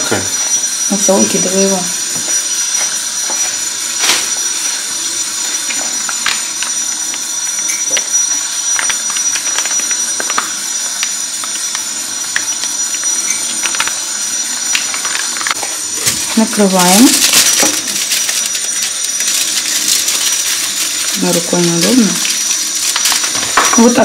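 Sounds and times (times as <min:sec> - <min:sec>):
kitchen hiss: 0:00.0 - 0:24.0
utensils and dishes clicking: 0:01.1 - 0:24.0.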